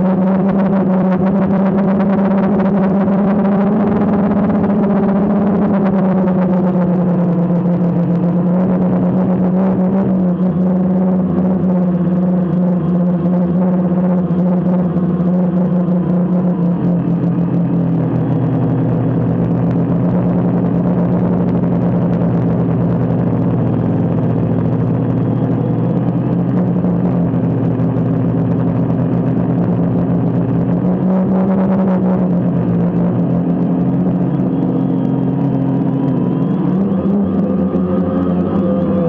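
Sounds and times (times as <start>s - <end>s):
drone propellers buzzing: 0.0s - 39.0s.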